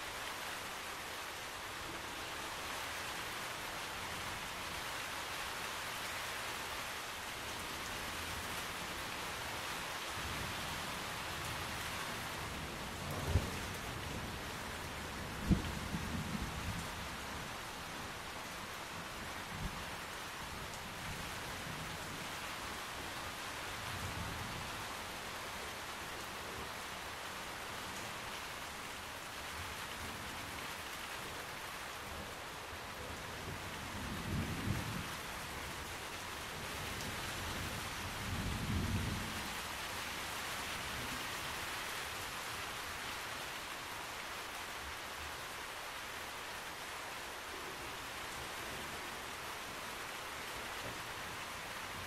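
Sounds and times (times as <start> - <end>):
steady rain: 0.0 - 52.0.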